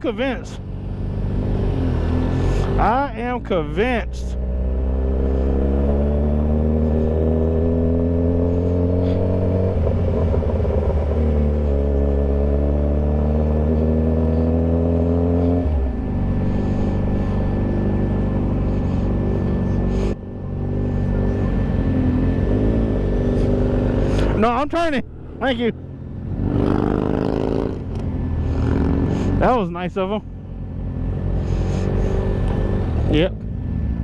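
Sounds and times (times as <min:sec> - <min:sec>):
motorcycle engine accelerating: 0:00.6 - 0:34.0.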